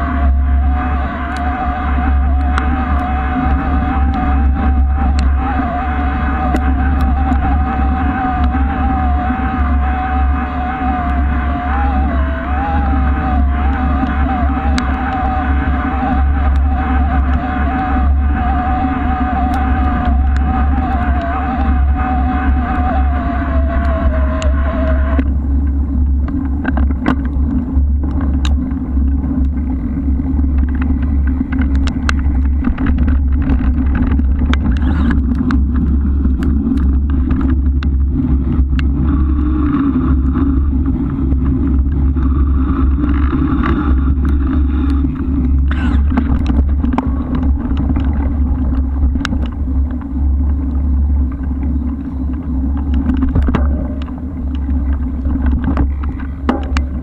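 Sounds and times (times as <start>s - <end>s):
bike riding rumble: 0.0s - 57.0s
sharp clicks and rattles: 0.0s - 57.0s
wind buffeting microphone: 0.0s - 57.0s.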